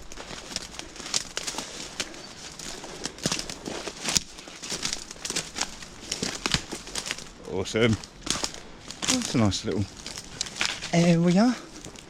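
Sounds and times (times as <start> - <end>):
footsteps through undergrowth: 0.0 - 12.0
twigs snapping and rustling: 0.0 - 12.0.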